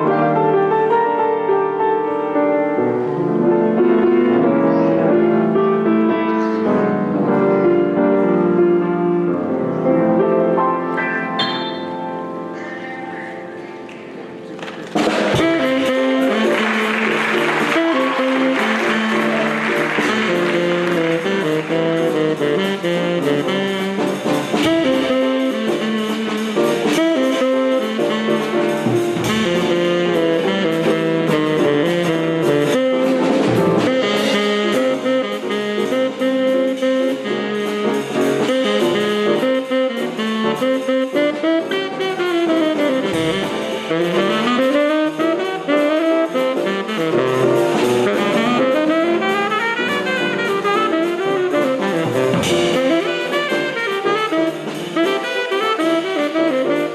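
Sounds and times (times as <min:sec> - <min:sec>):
drum kit: 0:00.0 - 0:56.9
horns playing jazz melody: 0:00.0 - 0:56.9.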